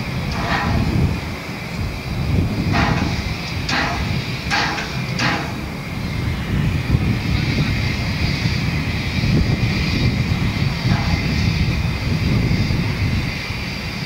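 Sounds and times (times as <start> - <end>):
low rumble of locomotive: 0.0 - 14.0
short steam puffs: 0.0 - 14.0
steam hiss: 0.0 - 14.0.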